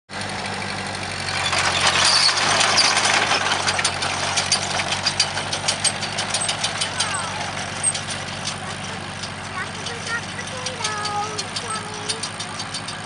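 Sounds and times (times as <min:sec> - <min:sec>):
harvest machinery engine running: 0:00.1 - 0:13.0
clattering ticks: 0:01.3 - 0:13.0.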